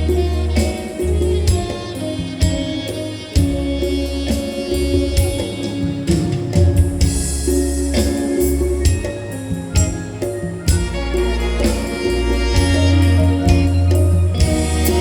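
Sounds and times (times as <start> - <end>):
music with bass and plucked strings: 0.0 - 15.0.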